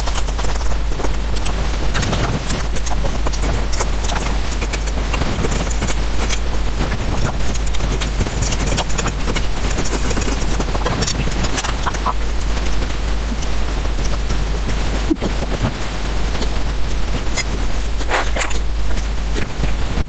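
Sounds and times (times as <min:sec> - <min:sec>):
slurping and chewing noodles: 0:00.0 - 0:19.1.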